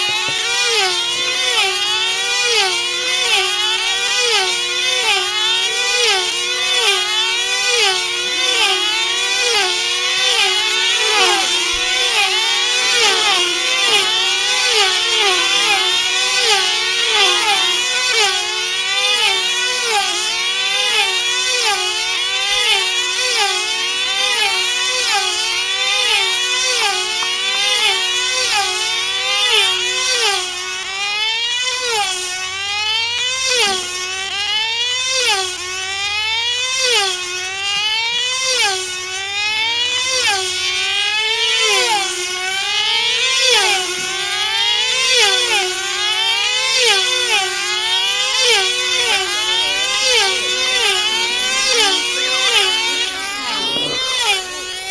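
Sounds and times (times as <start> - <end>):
model aircraft engines whining: 0.0 - 54.9.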